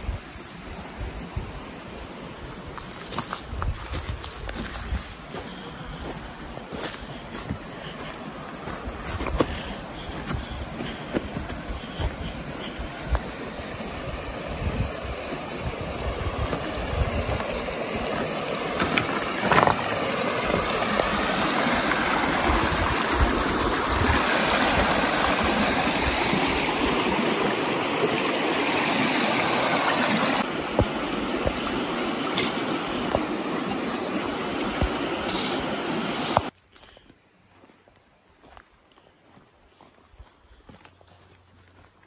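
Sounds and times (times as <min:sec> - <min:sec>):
stream rushing over rocks: 0:02.1 - 0:36.6.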